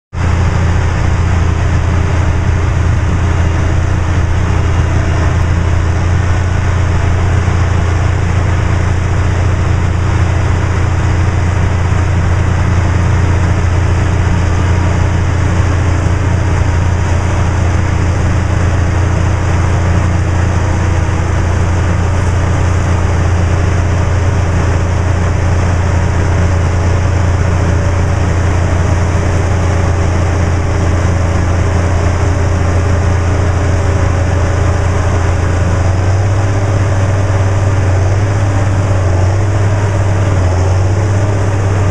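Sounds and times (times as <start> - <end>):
harvester and tractor engines droning: 0.1 - 41.9.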